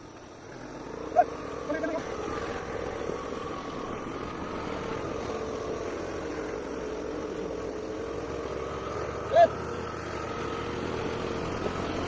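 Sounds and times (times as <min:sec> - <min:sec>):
road and wind noise: 0:00.0 - 0:12.0
vehicle engine running: 0:00.0 - 0:12.0.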